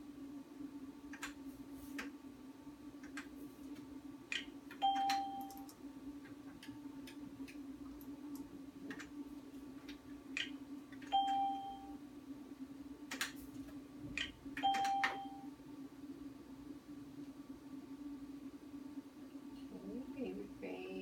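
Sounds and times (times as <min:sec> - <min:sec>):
machine low hum: 0:00.0 - 0:21.0.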